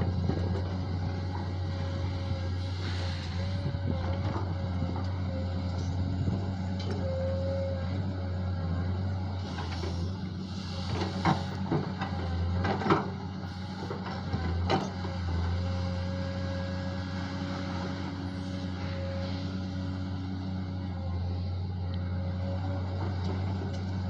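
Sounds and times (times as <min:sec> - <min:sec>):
diesel digger engine running: 0:00.0 - 0:24.0.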